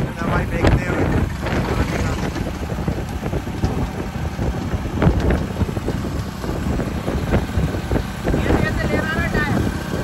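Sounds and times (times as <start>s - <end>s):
motorcycle engine: 0.0s - 10.0s
road noise: 0.0s - 10.0s
wind buffeting microphone: 0.0s - 10.0s.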